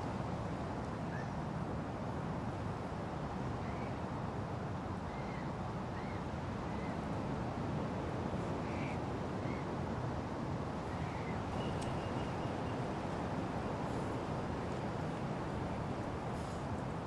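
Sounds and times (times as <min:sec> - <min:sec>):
wind through trees: 0:00.0 - 0:17.0.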